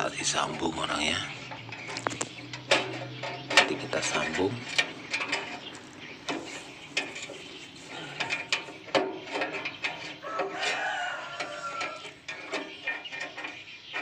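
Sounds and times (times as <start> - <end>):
metal parts clicking and knocking: 0.3 - 14.0.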